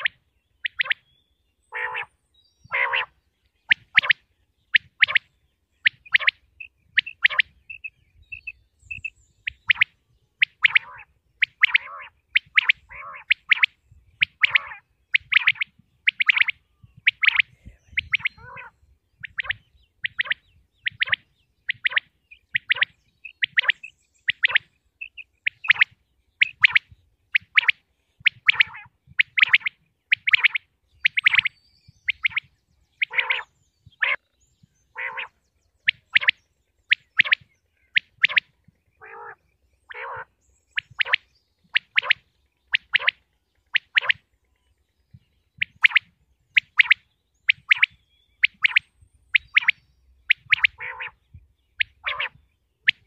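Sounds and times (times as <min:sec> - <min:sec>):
quail calling: 0:00.0 - 0:01.0, 0:01.7 - 0:34.2, 0:34.9 - 0:44.2, 0:45.6 - 0:53.0.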